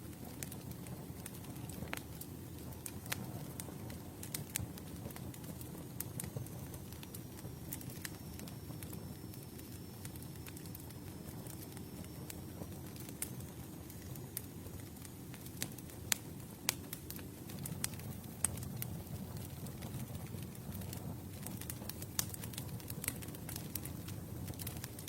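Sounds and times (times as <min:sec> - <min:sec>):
campfire rumbling: 0:00.0 - 0:25.0
wood crackling and popping: 0:00.0 - 0:25.0.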